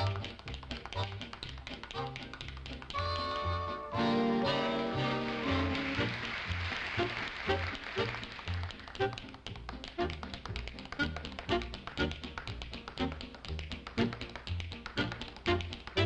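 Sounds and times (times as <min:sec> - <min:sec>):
tap shoes on stage floor: 0:00.0 - 0:04.1, 0:04.9 - 0:16.0.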